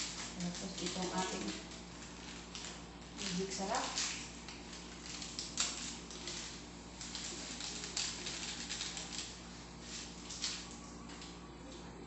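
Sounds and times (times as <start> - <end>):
sachet ripping: 0.0 - 11.4
foil sachet crinkling: 0.0 - 11.8
steady low hum: 0.0 - 12.0.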